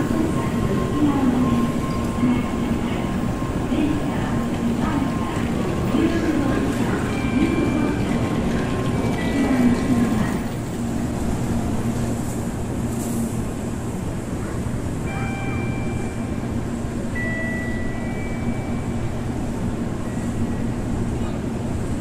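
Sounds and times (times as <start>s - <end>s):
train rumbling with low hum: 0.0s - 22.0s.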